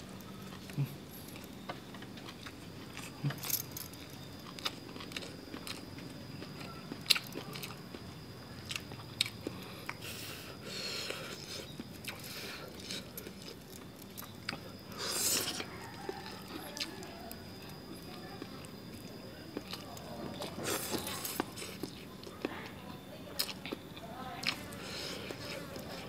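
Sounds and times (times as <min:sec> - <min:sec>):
chewing and crunching: 0:00.0 - 0:26.0.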